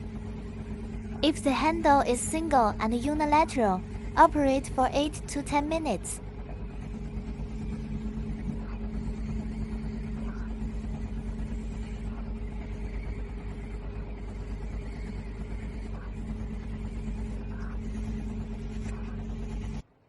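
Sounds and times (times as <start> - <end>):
faint soft pulses: 0.0 - 19.8
machine motor hum: 0.0 - 20.0.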